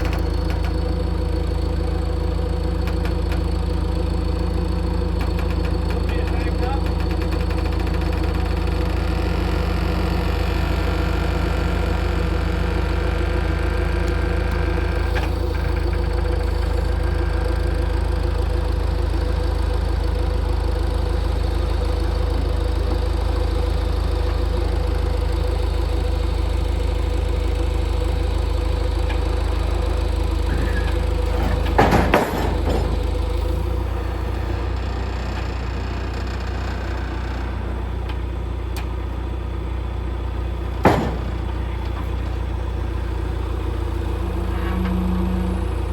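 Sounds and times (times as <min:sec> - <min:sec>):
engine droning: 0:00.0 - 0:45.9.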